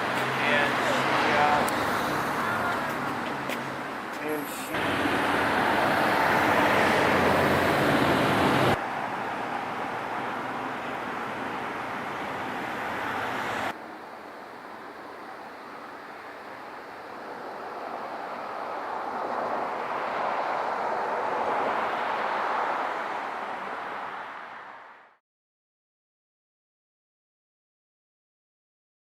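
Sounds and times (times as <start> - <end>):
rushing vehicle noise: 0.0 - 25.2.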